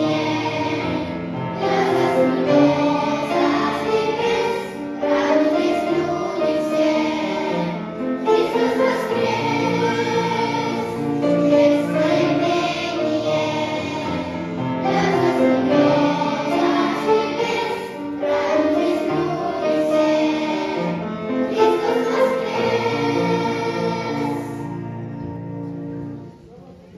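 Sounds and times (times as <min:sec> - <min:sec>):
choir singing a hymn: 0:00.0 - 0:25.4.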